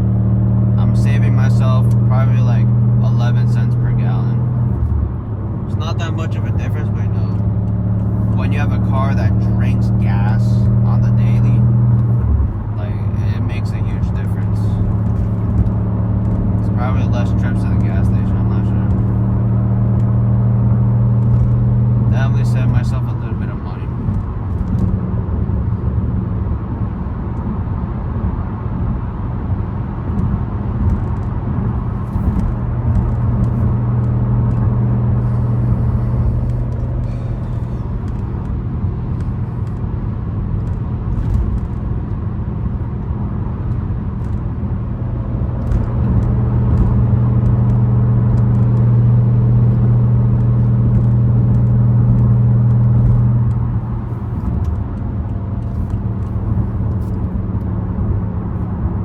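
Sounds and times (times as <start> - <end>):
car exhaust droning: 0.0 - 59.0.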